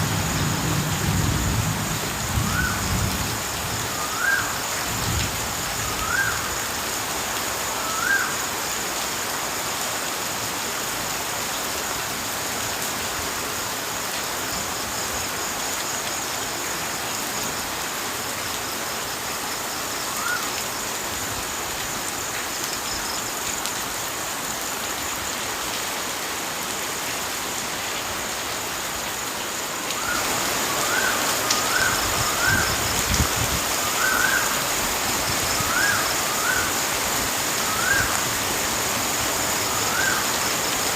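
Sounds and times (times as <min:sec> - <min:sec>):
running water rushing: 0:02.4 - 0:40.9.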